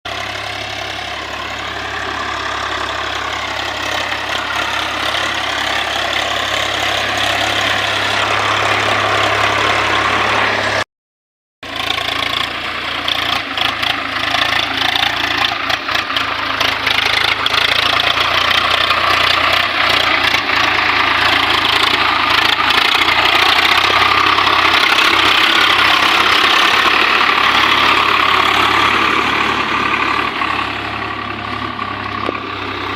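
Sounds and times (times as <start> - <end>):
tractor diesel engine under load: 0.0 - 10.9, 11.6 - 32.9.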